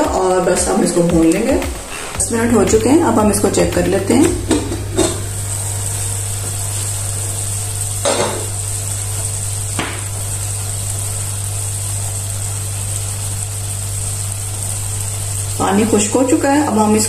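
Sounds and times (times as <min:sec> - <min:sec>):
meat sizzling in a pot: 0:00.0 - 0:17.0
low steady hum: 0:02.2 - 0:17.0.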